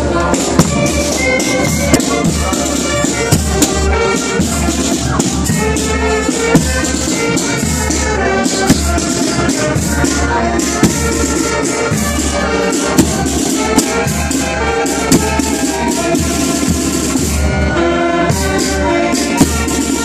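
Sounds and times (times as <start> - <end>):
marching band playing: 0.0 - 20.0.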